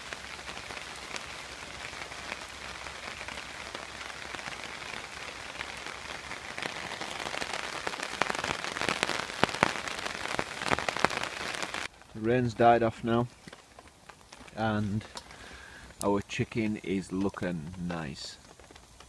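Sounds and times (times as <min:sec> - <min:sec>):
raindrops pattering close by: 0:00.0 - 0:19.0
steady rain falling: 0:00.0 - 0:19.0.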